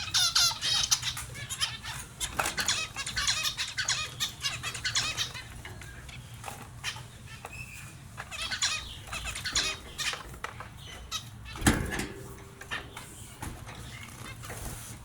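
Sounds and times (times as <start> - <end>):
finches chirping: 0.0 - 14.5.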